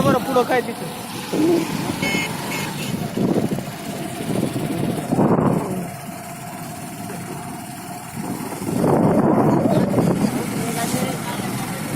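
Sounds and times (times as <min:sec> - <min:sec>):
vehicle engine rumble from inside: 0:00.0 - 0:11.9.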